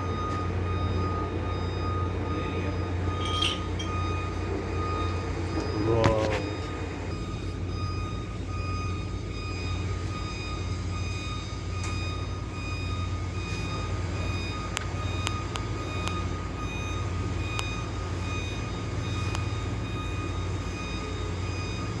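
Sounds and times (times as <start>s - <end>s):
truck engine running: 0.0s - 22.0s
truck reversing alarm beeping: 0.0s - 22.0s.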